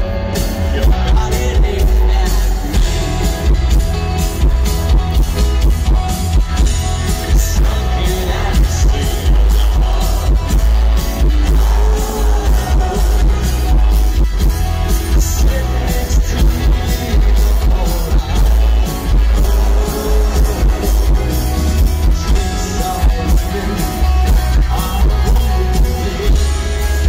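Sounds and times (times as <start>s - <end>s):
person singing: 0.0s - 4.5s, 7.0s - 27.0s
live rock band playing: 0.0s - 27.0s.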